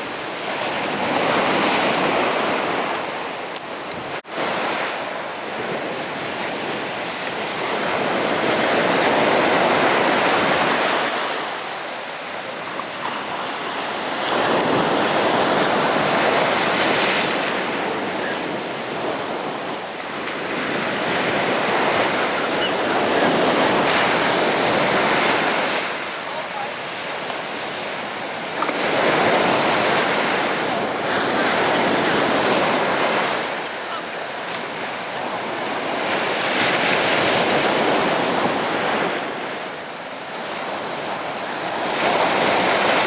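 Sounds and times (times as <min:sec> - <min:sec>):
sea waves breaking on beach: 0:00.0 - 0:43.0.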